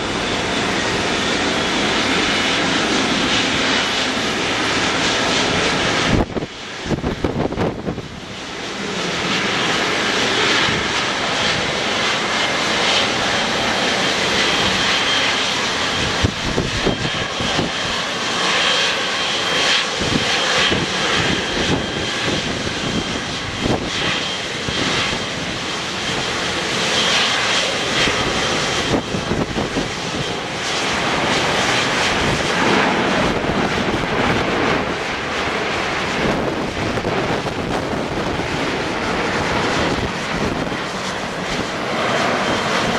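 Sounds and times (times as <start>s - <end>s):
jet engines rushing and whining: 0.0s - 42.9s.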